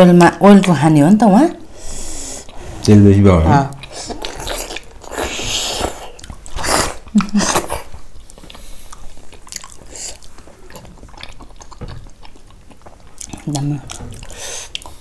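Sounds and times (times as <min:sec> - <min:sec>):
person chewing food: 0:02.0 - 0:15.0.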